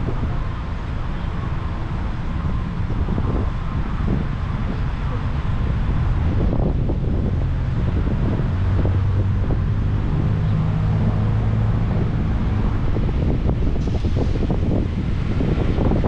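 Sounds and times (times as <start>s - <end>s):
road and engine rumble: 0.0s - 16.0s
wind buffeting microphone: 0.0s - 16.0s.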